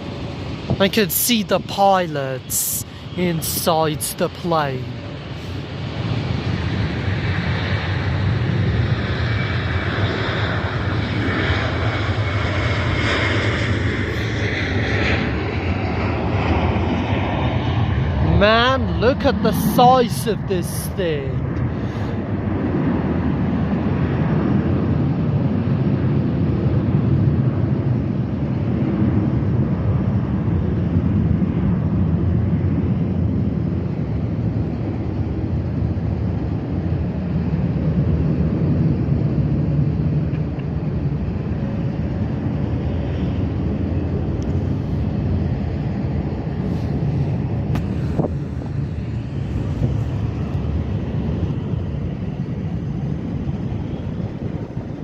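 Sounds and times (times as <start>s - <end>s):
airport machinery rumble: 0.0s - 55.0s.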